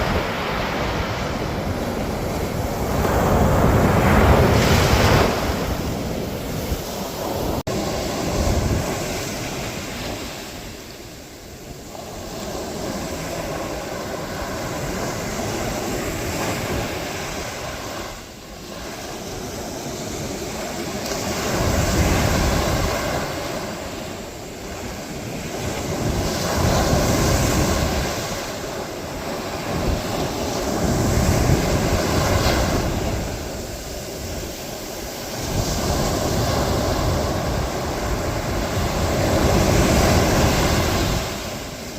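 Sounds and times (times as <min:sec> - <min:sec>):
ocean waves breaking: 0:00.0 - 0:41.9.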